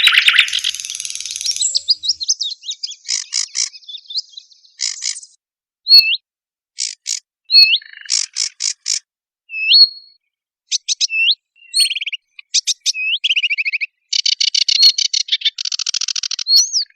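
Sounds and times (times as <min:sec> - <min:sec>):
songbirds singing: 0:00.0 - 0:06.2, 0:06.8 - 0:16.9.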